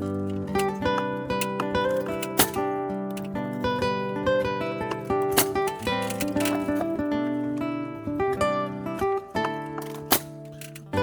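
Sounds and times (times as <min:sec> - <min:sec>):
acoustic guitar plucking and strumming: 0:00.0 - 0:11.0.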